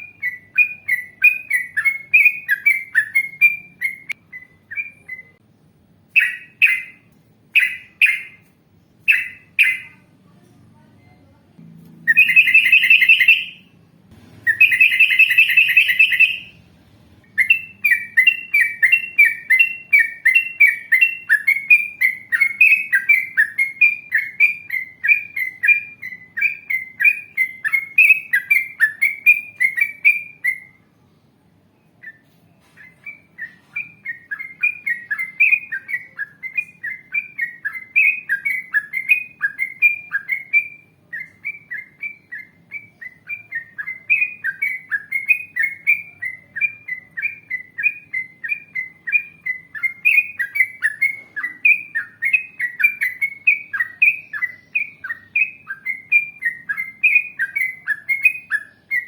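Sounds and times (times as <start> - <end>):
bird chirping: 0.0 - 10.4, 11.0 - 59.0.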